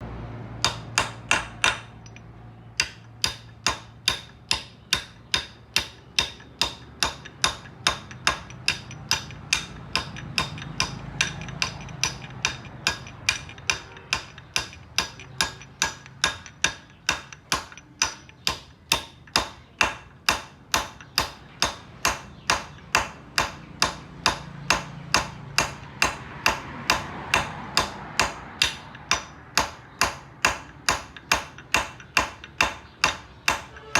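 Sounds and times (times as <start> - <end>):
sharp knocks: 0.6 - 2.2, 2.8 - 33.9.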